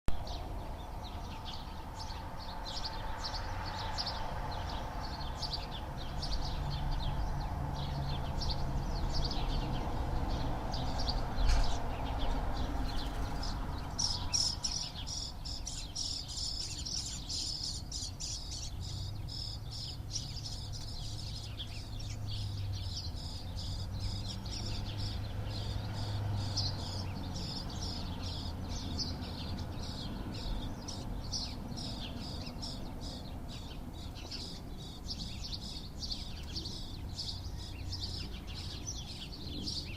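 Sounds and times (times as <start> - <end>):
small birds chirping: 0.1 - 39.9.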